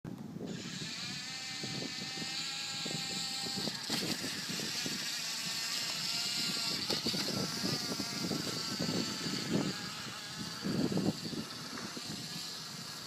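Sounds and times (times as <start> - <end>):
toy car motor tone: 0.5 - 13.0.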